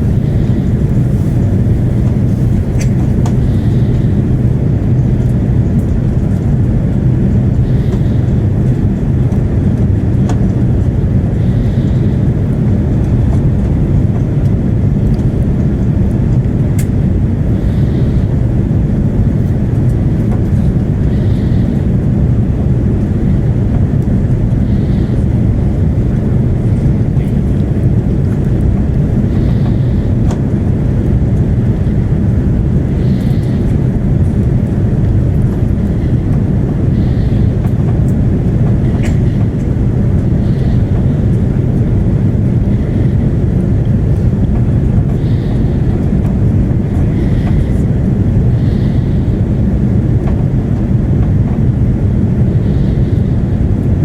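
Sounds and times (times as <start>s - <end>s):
aircraft cabin engine roar: 0.0s - 54.0s.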